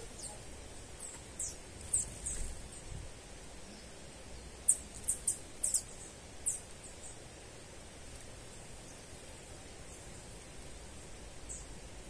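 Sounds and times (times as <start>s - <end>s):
faint background hiss: 0.0s - 12.0s
songbirds chirping: 0.0s - 12.0s.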